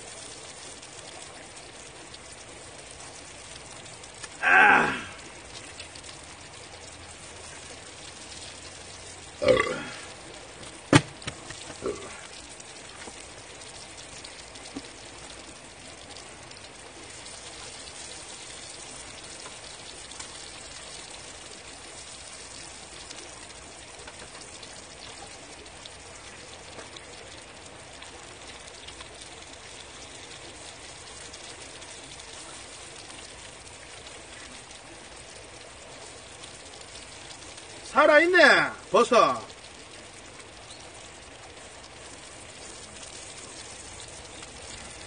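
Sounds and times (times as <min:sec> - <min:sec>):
faint drips: 0:00.0 - 0:45.0
steady rain hiss: 0:00.0 - 0:45.0.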